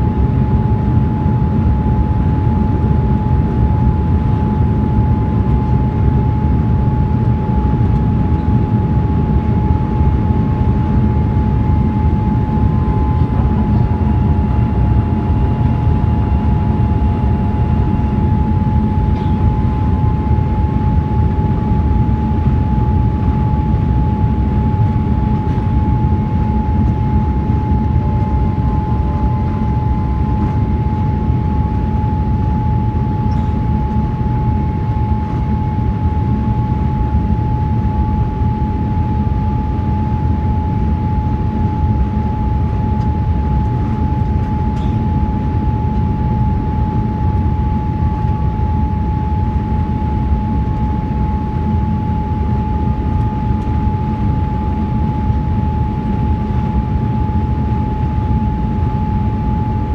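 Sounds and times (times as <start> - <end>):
constant whine: 0.0 - 59.9
jet engines and airflow rushing: 0.0 - 59.9.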